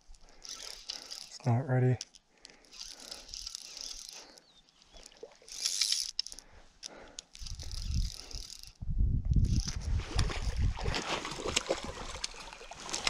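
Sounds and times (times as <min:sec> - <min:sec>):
fishing reel drag clicking: 0:00.1 - 0:10.6.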